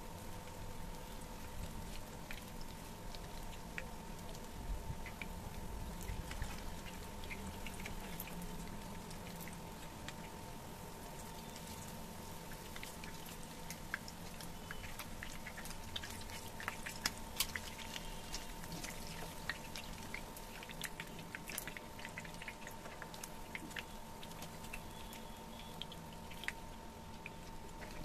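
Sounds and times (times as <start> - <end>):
chicken frying in oil: 0.0 - 28.0
steady hum: 0.0 - 28.0.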